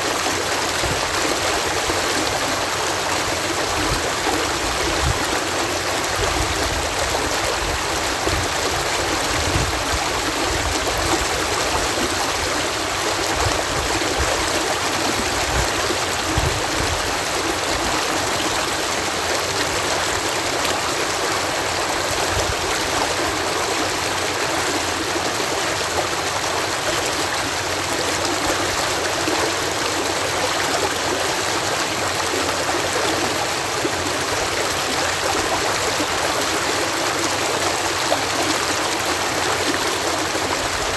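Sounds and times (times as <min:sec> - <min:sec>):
water cascading over canal lock: 0:00.0 - 0:40.9.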